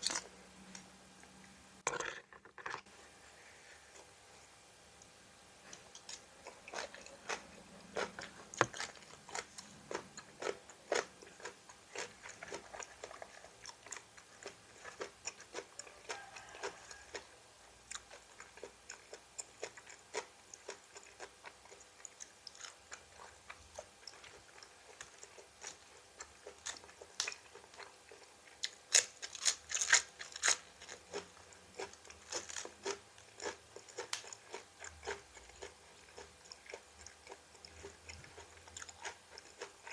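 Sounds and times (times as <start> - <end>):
chewing crisp raw vegetables: 5.7 - 39.9.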